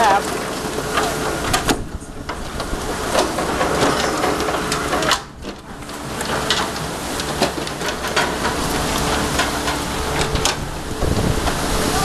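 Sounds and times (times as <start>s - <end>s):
boat machinery hum: 0.0s - 12.0s.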